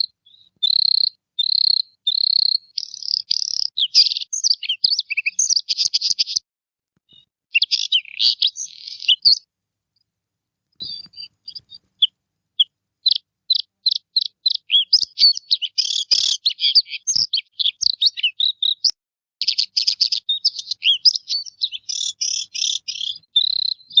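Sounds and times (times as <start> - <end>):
bird singing: 0.0 - 6.4, 7.1 - 9.4, 10.8 - 24.0.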